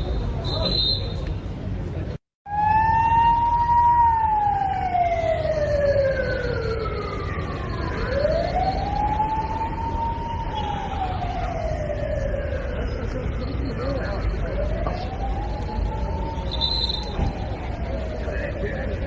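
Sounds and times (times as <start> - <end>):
police siren wailing: 2.5 - 19.0.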